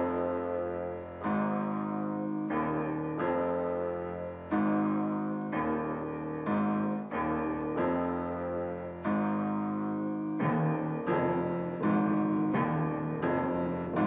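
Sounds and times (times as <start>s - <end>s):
keyboard playing held chords: 0.0s - 14.0s.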